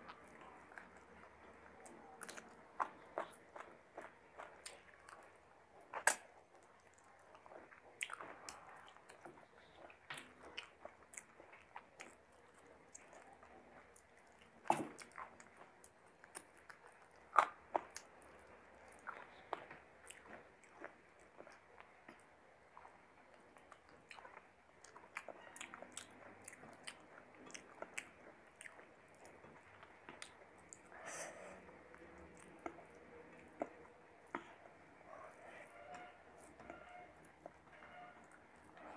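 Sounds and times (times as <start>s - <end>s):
close-miked chewing and biting: 0.0s - 38.9s.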